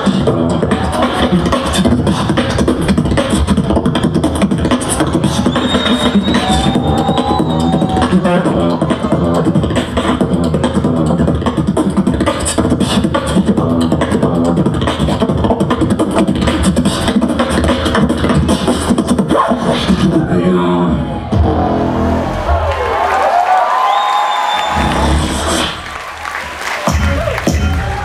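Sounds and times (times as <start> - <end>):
beatboxing into a microphone: 0.0 - 21.8, 24.6 - 26.0.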